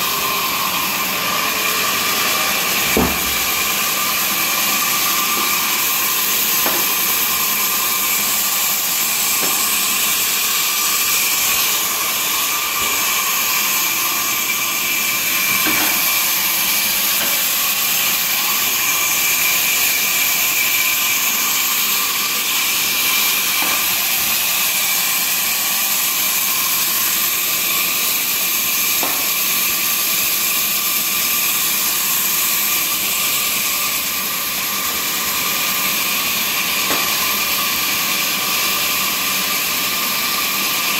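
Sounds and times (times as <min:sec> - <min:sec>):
woodworking machine whining: 0:00.0 - 0:40.9.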